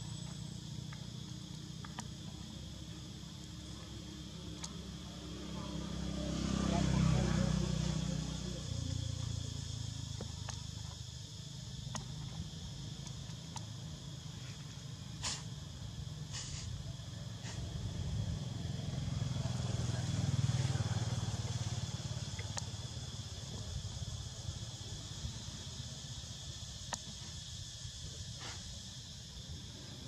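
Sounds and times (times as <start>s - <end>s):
insect drone: 0.0s - 30.0s.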